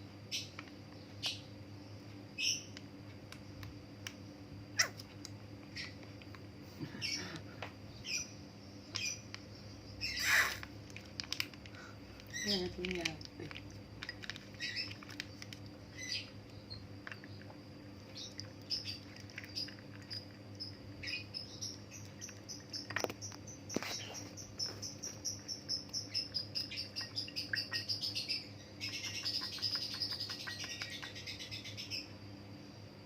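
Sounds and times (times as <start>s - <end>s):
steady low hum: 0.0s - 33.0s
small bird chirping: 0.3s - 1.6s, 2.3s - 2.8s, 3.4s - 6.2s, 6.8s - 10.8s, 12.2s - 13.5s, 14.1s - 32.2s.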